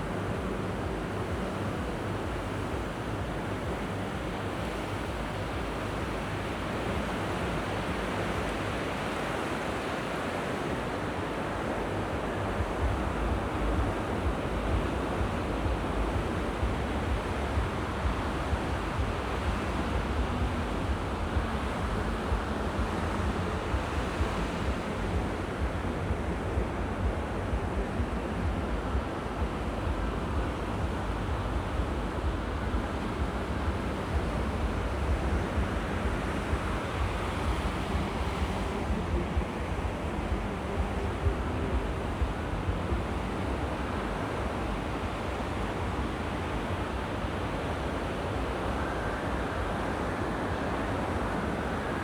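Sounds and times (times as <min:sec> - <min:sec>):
sea waves washing ashore: 0:00.0 - 0:52.0
wind buffeting microphone: 0:00.0 - 0:52.0.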